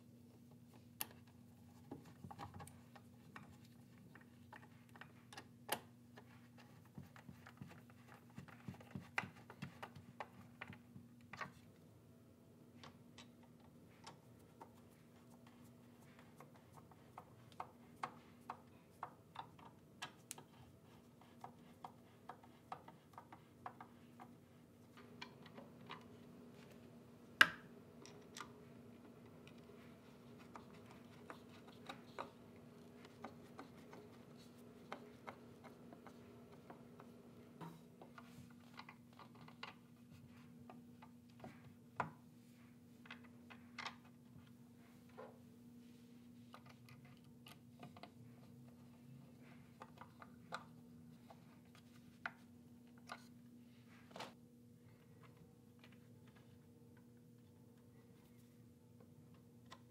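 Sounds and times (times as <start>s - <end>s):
low workshop hum: 0.0s - 59.9s
light clicks and taps of hand work: 0.3s - 11.8s, 12.7s - 42.3s, 46.5s - 53.4s, 54.1s - 59.9s.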